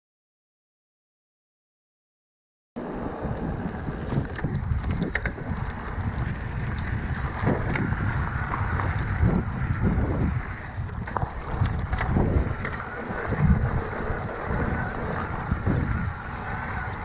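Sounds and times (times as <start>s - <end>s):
bike clicks and rattles: 2.8s - 17.0s
tyres rolling over loose stones: 2.8s - 17.0s
wind buffeting microphone: 2.8s - 17.0s.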